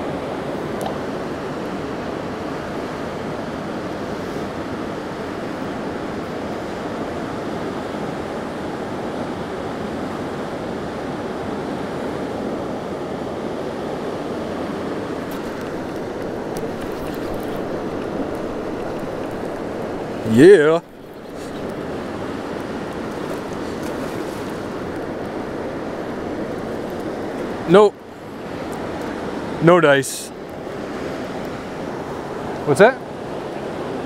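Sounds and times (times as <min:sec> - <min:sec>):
fast-flowing river rushing: 0:00.0 - 0:34.0.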